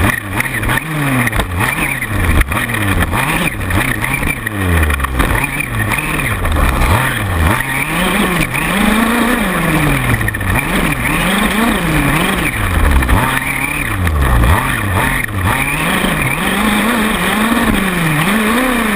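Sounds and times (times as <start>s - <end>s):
small two-stroke engine revving: 0.0s - 18.9s.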